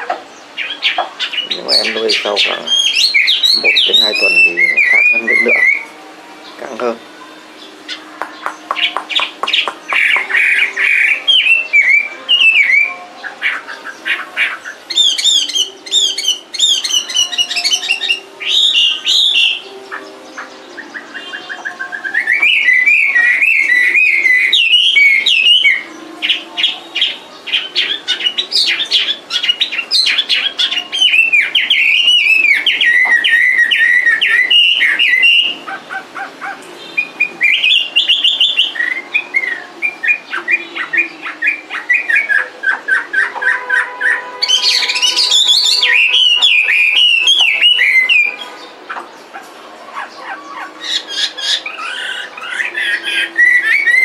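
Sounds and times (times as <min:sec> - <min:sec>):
bird singing whistled phrases: 0:00.6 - 0:06.0, 0:07.6 - 0:35.7, 0:36.9 - 0:49.0, 0:50.2 - 0:54.0.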